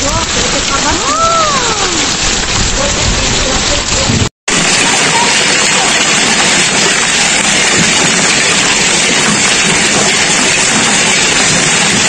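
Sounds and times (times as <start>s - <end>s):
hail and heavy rain pelting: 0.0s - 12.0s.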